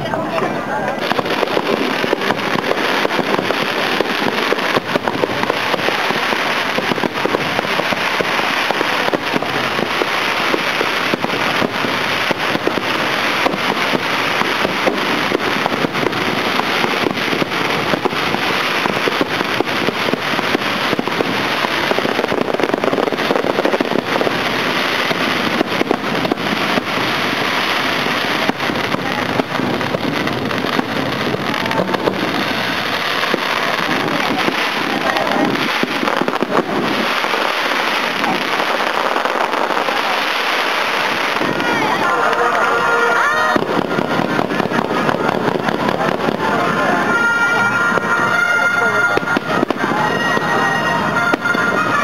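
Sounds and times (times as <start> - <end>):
fireworks cracking and popping: 0.0 - 52.0
fireworks crackling rush: 0.0 - 52.0.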